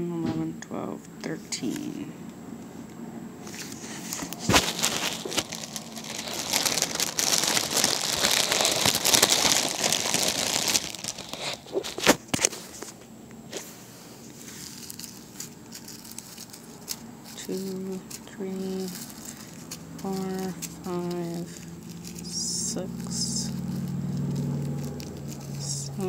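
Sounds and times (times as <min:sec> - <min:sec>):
plastic bags crinkling: 0:03.4 - 0:13.0, 0:13.6 - 0:26.0.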